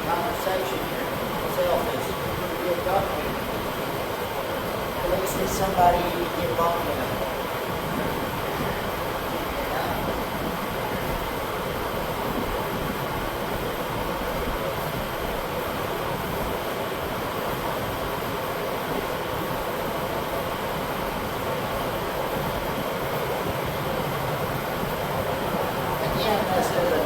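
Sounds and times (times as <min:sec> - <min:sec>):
shop fan running: 0:00.0 - 0:27.0.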